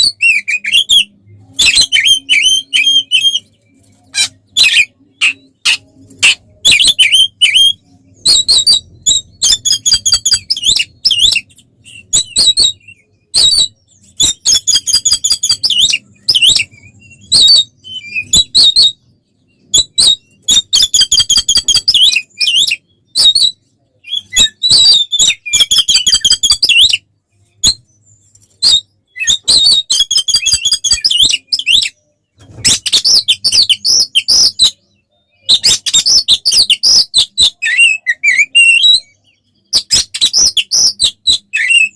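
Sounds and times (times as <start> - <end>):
bird singing rapid chattering notes: 0.0 - 41.9.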